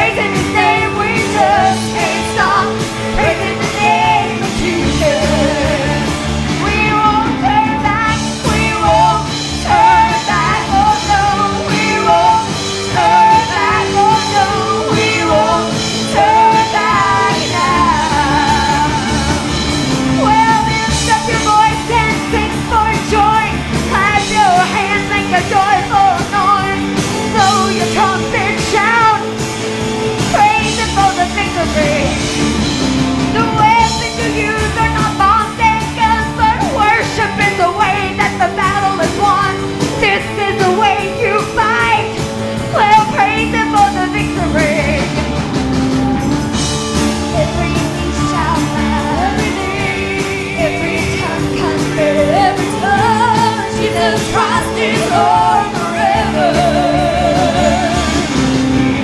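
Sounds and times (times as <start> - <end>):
band with drums: 0.0 - 59.0
voices singing: 0.0 - 59.0.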